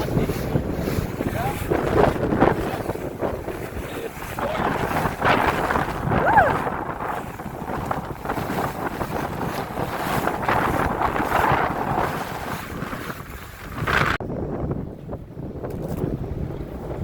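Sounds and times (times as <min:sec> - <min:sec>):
water washing around hull: 0:00.0 - 0:17.0
wind buffeting microphone: 0:00.0 - 0:17.0.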